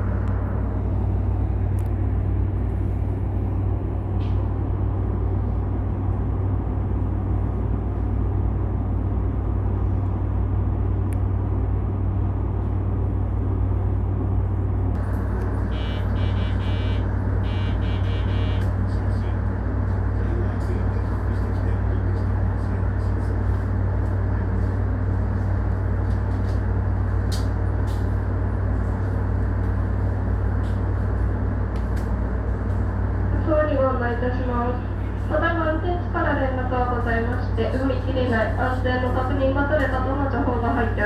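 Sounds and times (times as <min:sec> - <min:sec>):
train car equipment humming: 0:00.0 - 0:41.0.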